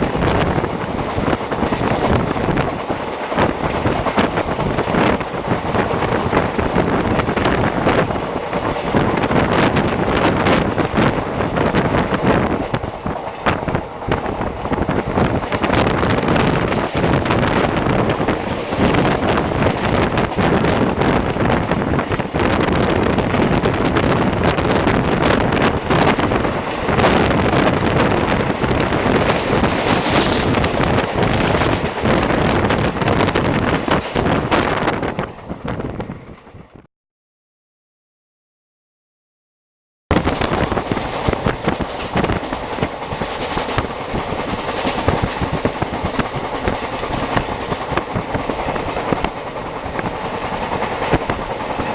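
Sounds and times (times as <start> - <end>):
train running on track: 0.0 - 36.9, 40.1 - 51.9
wind buffeting microphone: 0.0 - 36.9, 40.1 - 51.9.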